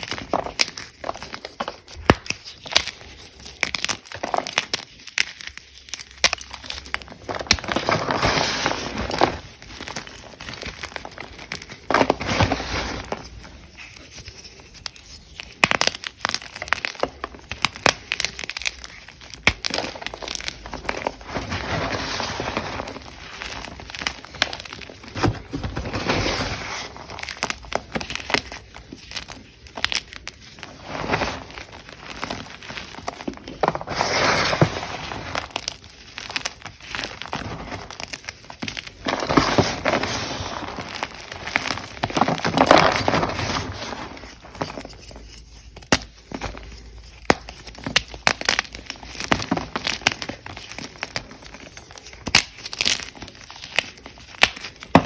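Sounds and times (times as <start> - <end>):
chalk crunching: 0.1 - 54.9.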